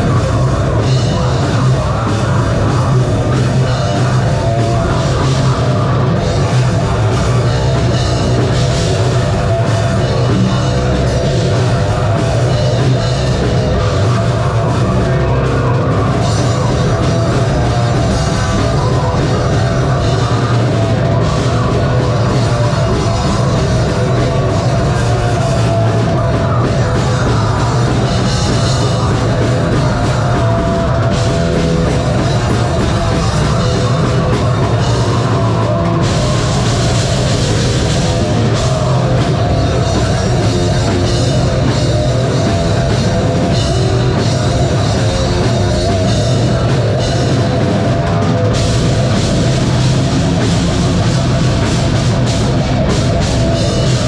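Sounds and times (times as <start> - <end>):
band playing live: 0.0 - 54.0
heavy distorted guitars: 0.0 - 54.0
pounding drum kit: 0.0 - 54.0.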